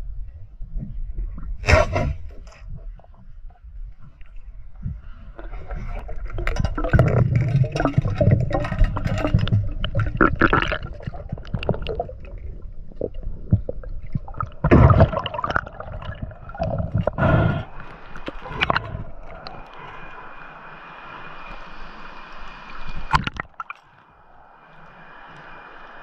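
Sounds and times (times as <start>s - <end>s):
water splashing and gurgling: 4.0s - 26.0s.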